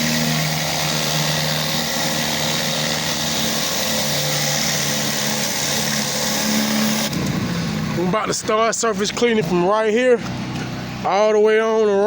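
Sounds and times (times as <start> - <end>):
pressure washer engine running: 0.0 - 11.2.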